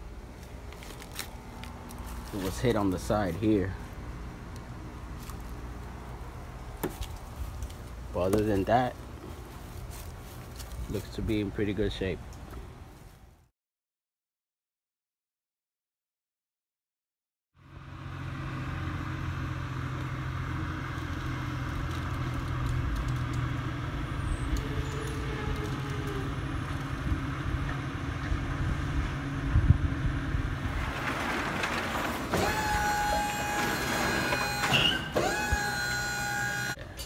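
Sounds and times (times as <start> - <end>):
vehicle engine humming: 0.0 - 13.5, 17.6 - 37.0.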